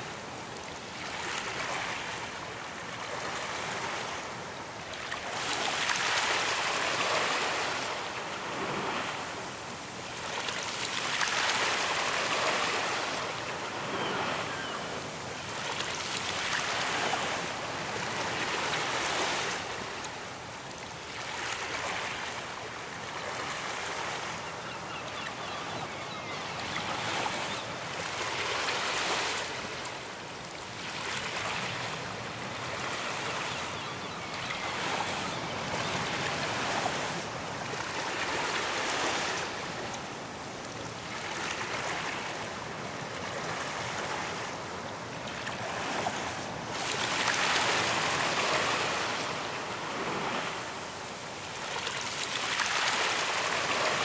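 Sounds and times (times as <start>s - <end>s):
sea waves breaking on beach: 0.0s - 25.0s, 25.8s - 39.9s, 40.9s - 54.0s.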